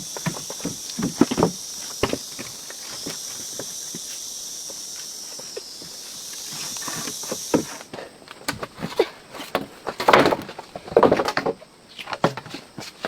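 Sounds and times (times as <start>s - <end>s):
insects droning: 0.0s - 13.0s
rustles crunches and knocks: 0.0s - 13.0s.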